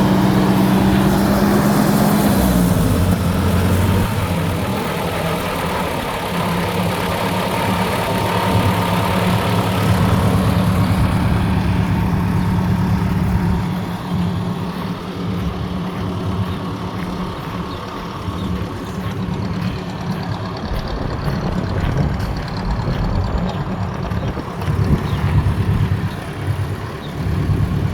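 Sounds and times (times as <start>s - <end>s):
tractor engine idling: 0.0s - 27.9s.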